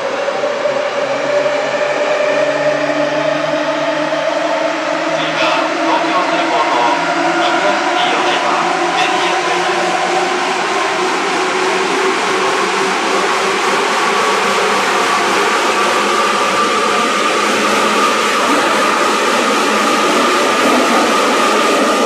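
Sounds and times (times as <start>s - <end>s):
train rolling noise: 0.0s - 22.0s
train motor and gear whine: 1.5s - 22.0s.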